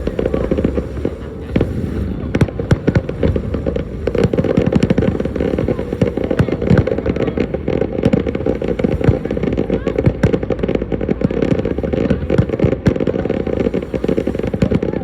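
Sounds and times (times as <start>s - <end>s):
dense fireworks crackle: 0.0s - 15.0s
fireworks bangs: 0.0s - 15.0s
low rumble: 0.0s - 15.0s.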